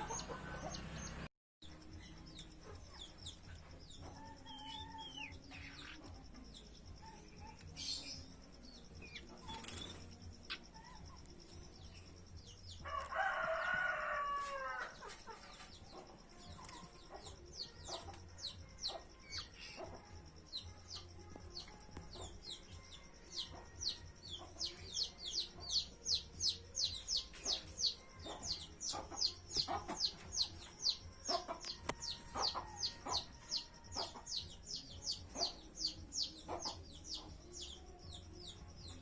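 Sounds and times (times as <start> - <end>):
small birds chirping rapidly: 0.0 - 12.8, 15.0 - 39.0.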